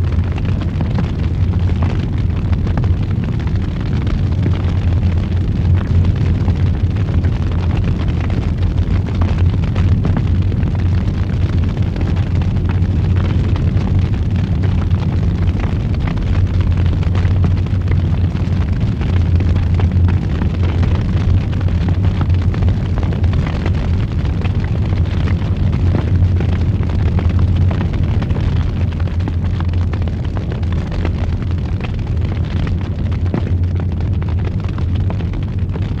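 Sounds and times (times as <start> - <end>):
fire rumbling and crackling: 0.0 - 36.0.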